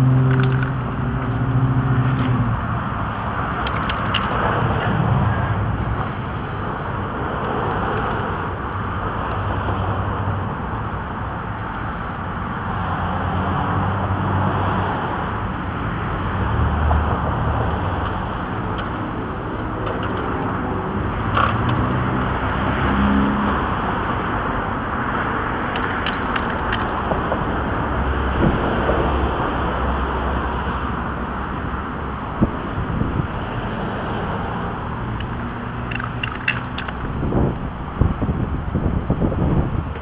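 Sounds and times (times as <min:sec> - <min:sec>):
cars passing: 0:00.0 - 0:40.0.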